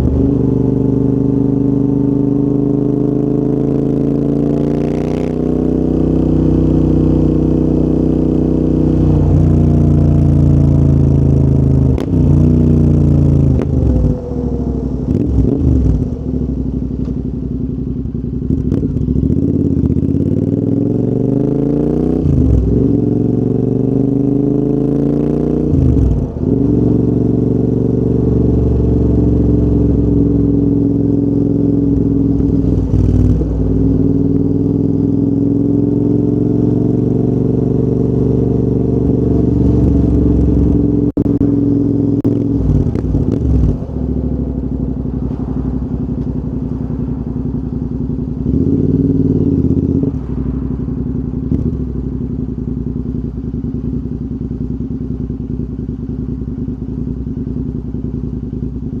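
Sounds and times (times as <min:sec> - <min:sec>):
motorcycle engine revving: 0:00.0 - 0:59.0
motorcycle engine running: 0:00.0 - 0:59.0.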